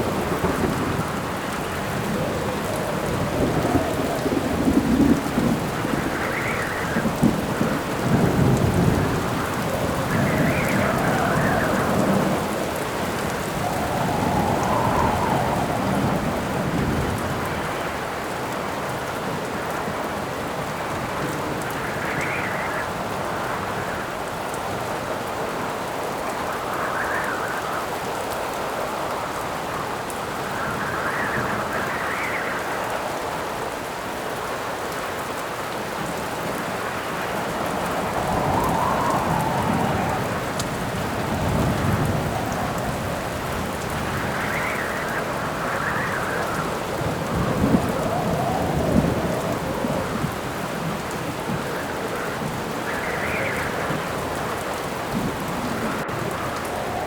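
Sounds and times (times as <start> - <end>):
thunder rumbling: 0.0 - 28.1, 36.0 - 57.0
heavy rain: 0.0 - 57.0
wind howling in gusts: 0.0 - 57.0.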